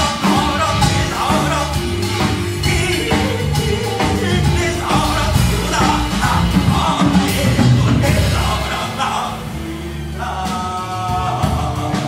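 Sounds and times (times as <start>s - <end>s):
man singing into a microphone: 0.0s - 9.5s, 10.2s - 12.0s
drums: 0.0s - 12.0s
piano: 0.0s - 12.0s
upright bass: 0.0s - 12.0s.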